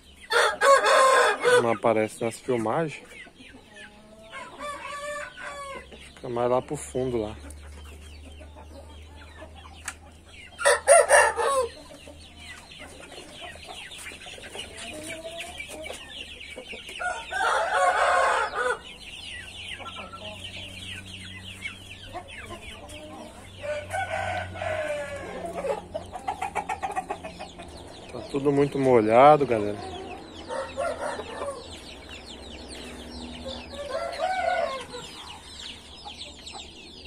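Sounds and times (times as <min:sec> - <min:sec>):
roosters crowing: 0:00.0 - 0:02.9, 0:03.9 - 0:06.2, 0:10.2 - 0:37.0
chickens clucking and chirping: 0:00.0 - 0:37.0.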